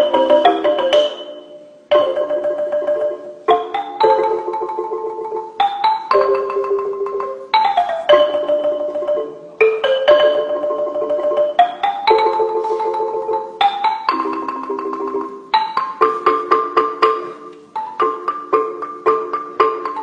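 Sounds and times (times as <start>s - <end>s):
mallet percussion tune: 0.0s - 20.0s.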